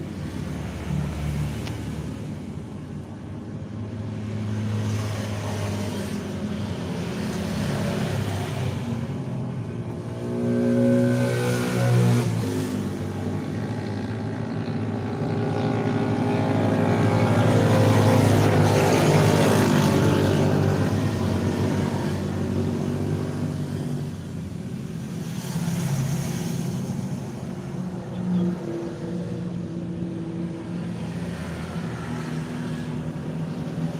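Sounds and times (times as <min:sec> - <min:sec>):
bus engine passing by: 0:00.0 - 0:33.9.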